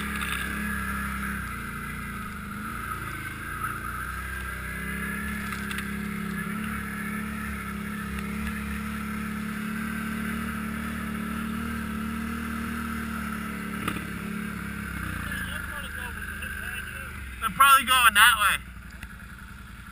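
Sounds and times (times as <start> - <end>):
atv engine droning: 0.0 - 19.9.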